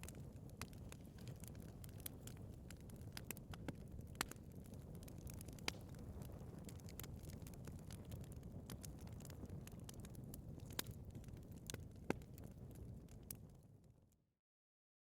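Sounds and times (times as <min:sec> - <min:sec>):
fire crackles and pops: 0:00.0 - 0:14.0
low rumble of flame: 0:00.0 - 0:14.2.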